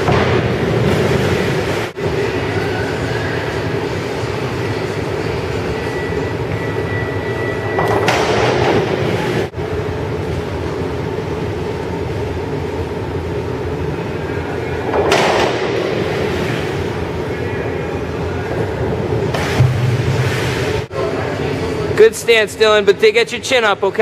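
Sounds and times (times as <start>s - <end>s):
low rumble of pool hall: 0.0s - 24.0s.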